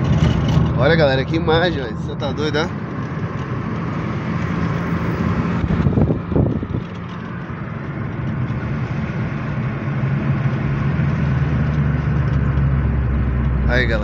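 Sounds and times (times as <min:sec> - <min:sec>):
car engine hum: 0:00.0 - 0:14.0
tyre and road noise: 0:00.0 - 0:14.0.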